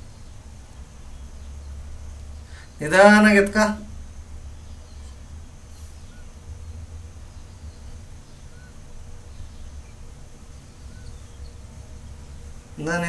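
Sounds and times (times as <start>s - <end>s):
faint bird chirps: 0.0s - 13.0s
low steady rumble: 0.0s - 13.0s.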